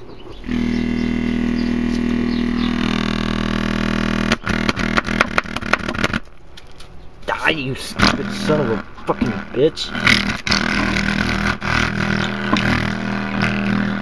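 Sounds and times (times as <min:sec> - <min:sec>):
distorted speaker buzz: 0:00.0 - 0:06.5, 0:07.2 - 0:14.0
speaker stuttering crackles: 0:00.0 - 0:14.0.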